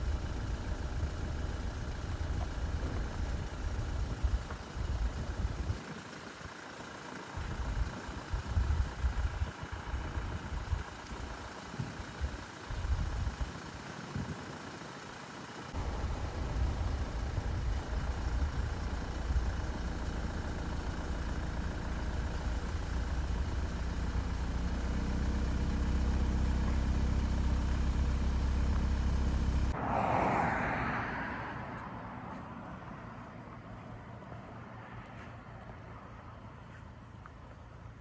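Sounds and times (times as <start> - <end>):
truck diesel engine: 0.0 - 34.0.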